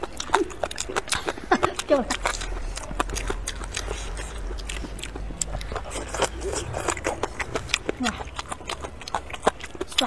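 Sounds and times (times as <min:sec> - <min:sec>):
chewing with mouth clicks: 0:00.0 - 0:10.0.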